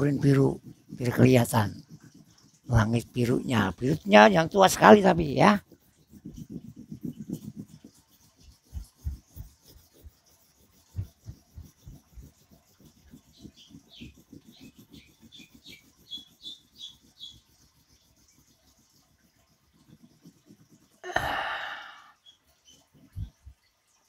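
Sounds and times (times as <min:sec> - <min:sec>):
crayon rubbing on paper: 0:00.0 - 0:23.4.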